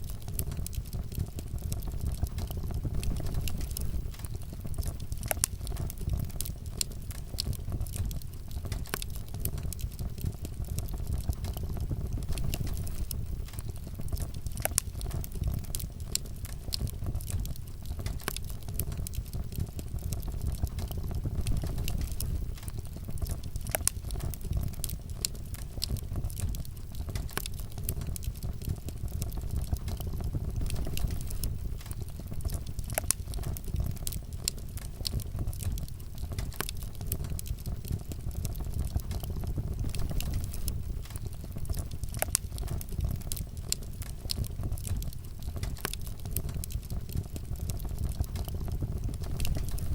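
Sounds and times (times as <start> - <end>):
fire flames rumbling: 0.0 - 49.9
fire pops and crackles: 0.0 - 49.9.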